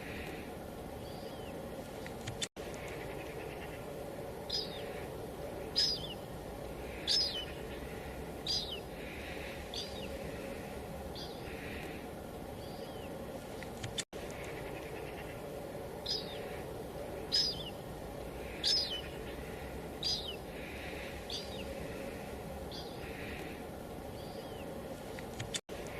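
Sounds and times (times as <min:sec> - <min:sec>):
light drizzle hiss: 0:00.0 - 0:25.9.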